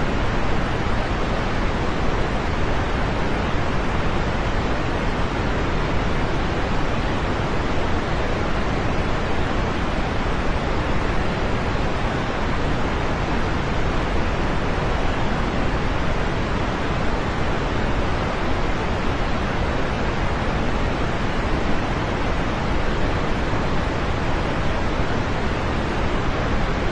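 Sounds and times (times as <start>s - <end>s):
steady rain hiss: 0.0s - 26.9s.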